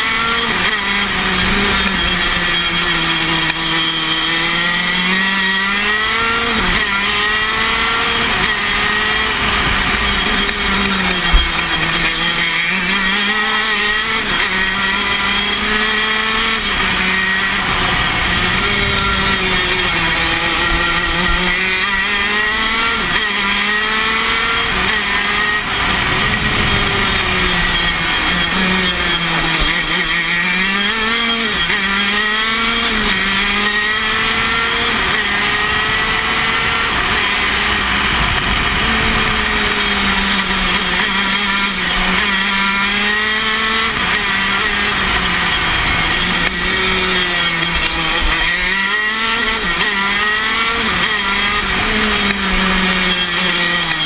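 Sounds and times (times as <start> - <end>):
kart engine revving high-pitched: 0.0 - 54.0.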